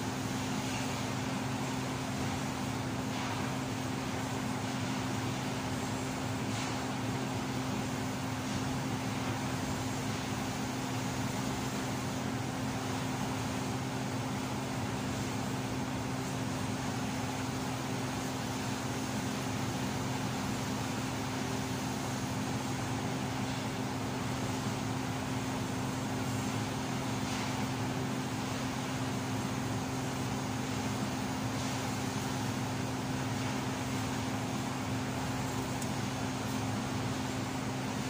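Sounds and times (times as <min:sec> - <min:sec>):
welding hiss: 0:00.0 - 0:38.0
welding machine hum: 0:00.0 - 0:38.0.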